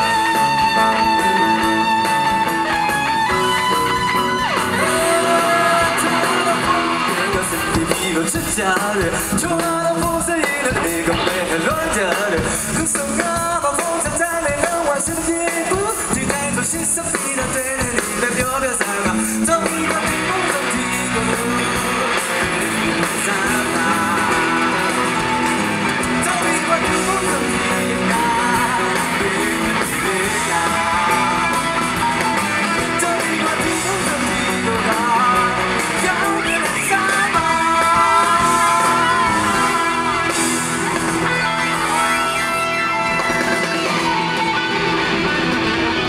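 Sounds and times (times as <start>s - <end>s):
person singing: 0.0s - 45.1s
drum kit: 0.0s - 46.0s
electric guitars: 0.0s - 46.0s.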